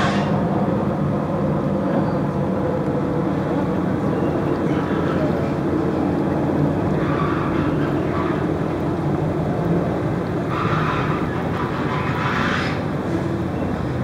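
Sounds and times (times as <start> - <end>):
marine engine droning: 0.0 - 14.0.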